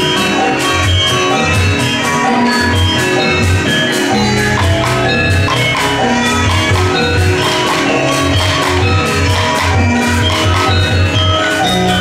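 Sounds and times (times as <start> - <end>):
pulsing drum beat: 0.0 - 12.0
sharp percussive strokes: 0.0 - 12.0
tuned percussion melody: 0.0 - 12.0.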